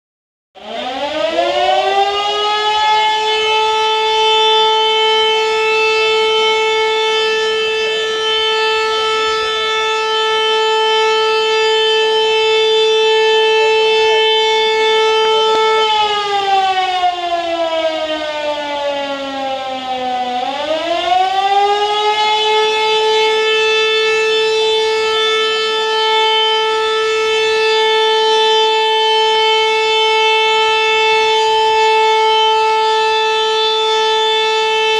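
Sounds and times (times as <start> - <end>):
siren winding up and down: 0.6 - 34.9.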